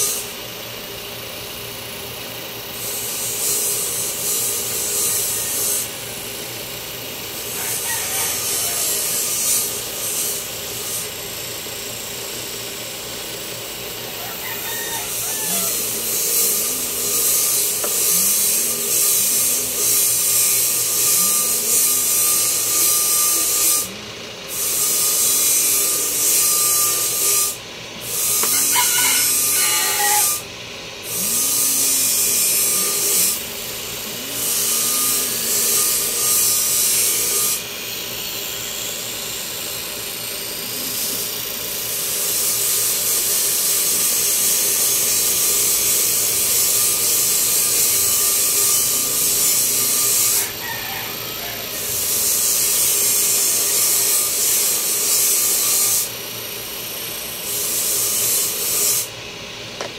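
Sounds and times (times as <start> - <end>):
power tool whining: 0.0 - 14.2, 14.9 - 59.9.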